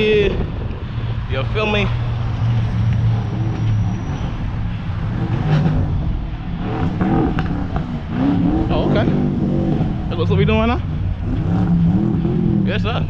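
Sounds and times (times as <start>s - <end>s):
car engine running: 0.0s - 13.0s
road noise rumble: 0.0s - 13.0s.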